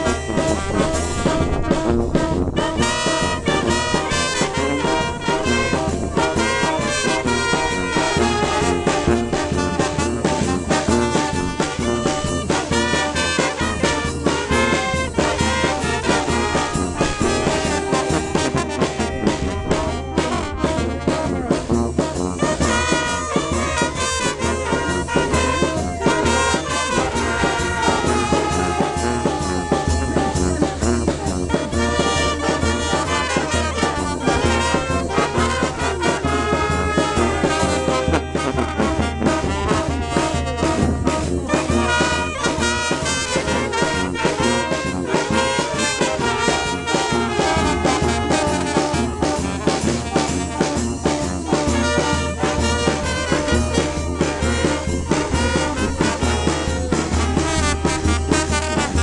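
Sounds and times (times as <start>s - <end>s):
wind band playing a tune: 0.0s - 59.0s.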